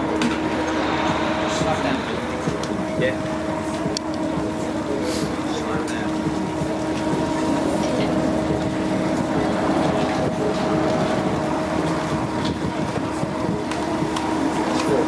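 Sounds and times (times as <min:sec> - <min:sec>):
faint background chatter: 0:00.0 - 0:15.0
machine hum: 0:00.0 - 0:15.0.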